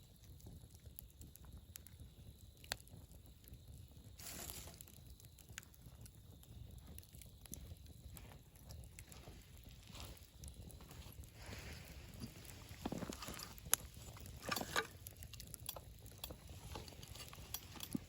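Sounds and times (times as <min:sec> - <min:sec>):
fire hissing flares: 0:00.0 - 0:18.0
wood fire crackling and popping: 0:00.0 - 0:18.0.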